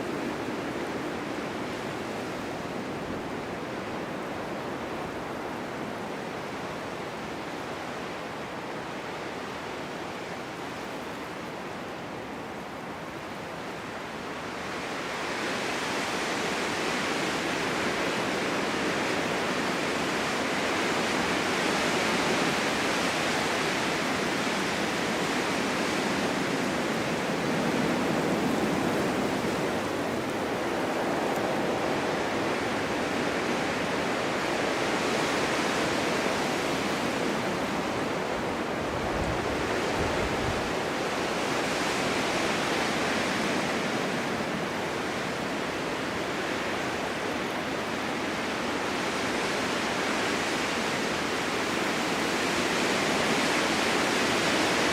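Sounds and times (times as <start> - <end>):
strong wind through forest: 0.0 - 54.9.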